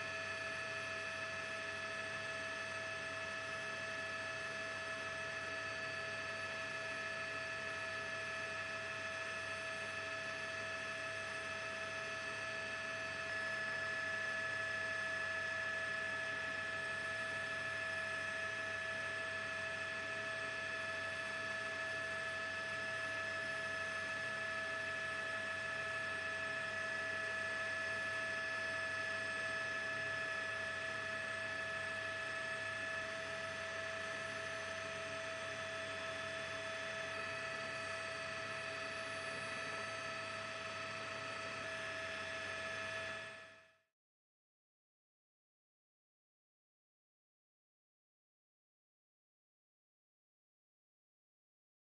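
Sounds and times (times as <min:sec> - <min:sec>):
electronic hum of held tones: 0:00.0 - 0:43.8.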